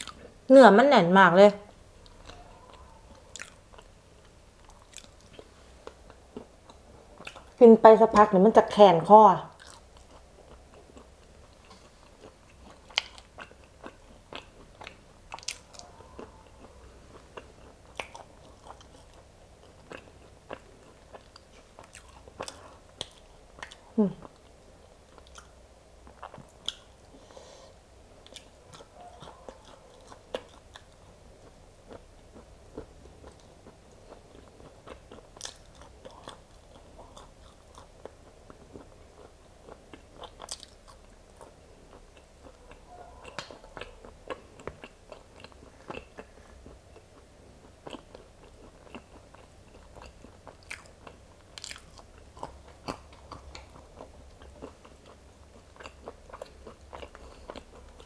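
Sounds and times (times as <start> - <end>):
person chewing seeds: 2.0 - 7.6, 9.5 - 58.0.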